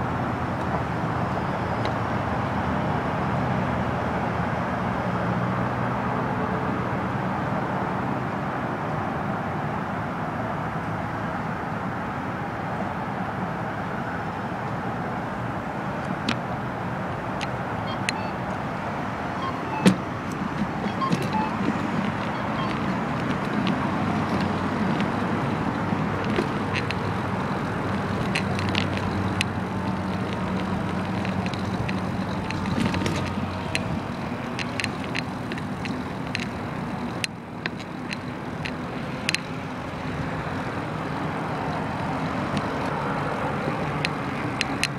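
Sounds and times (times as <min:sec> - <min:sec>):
low engine hum of traffic: 0:00.0 - 0:44.9.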